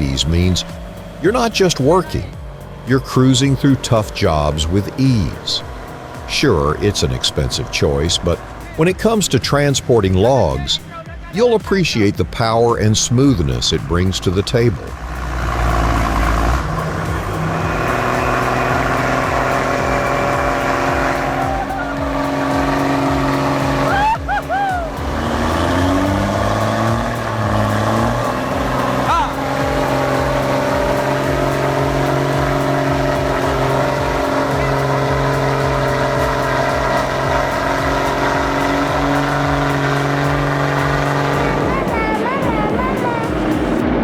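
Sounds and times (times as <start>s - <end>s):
truck engine rumbling: 0.0s - 44.0s.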